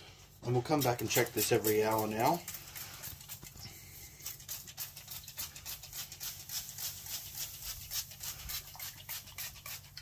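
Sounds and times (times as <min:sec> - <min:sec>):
spray bottle squirting: 0:00.8 - 0:10.0.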